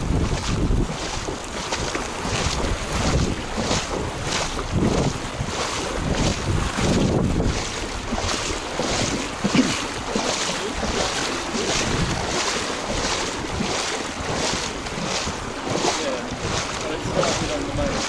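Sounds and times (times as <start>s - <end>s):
footsteps wading through water: 0.0s - 18.0s
wind on microphone: 0.0s - 18.0s.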